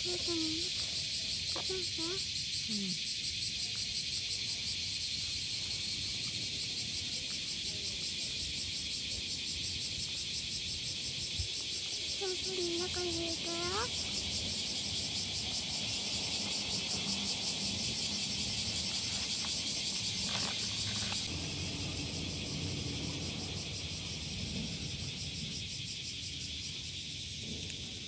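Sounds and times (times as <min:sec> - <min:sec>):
insect chirring: 0:00.0 - 0:28.0.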